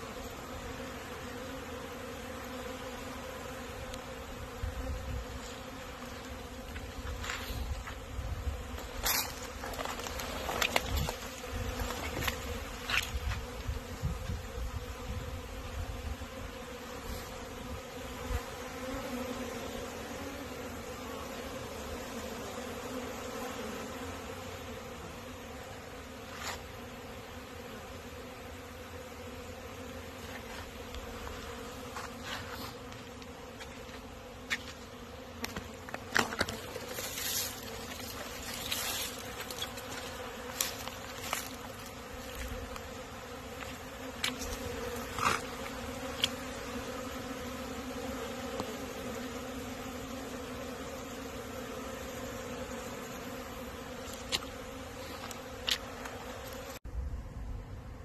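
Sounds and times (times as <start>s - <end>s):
bees buzzing: 0.0s - 56.9s.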